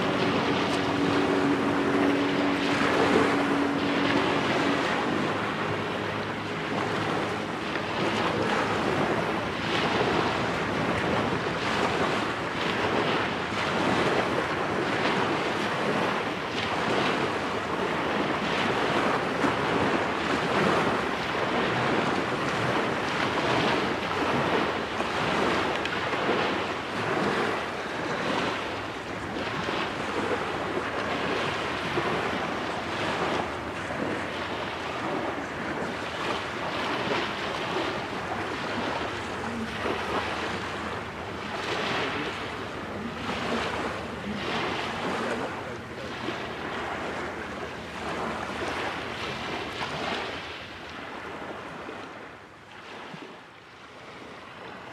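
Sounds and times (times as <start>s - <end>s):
waves washing onto shore: 0.0s - 54.9s
wind gusting across microphone: 0.0s - 54.9s.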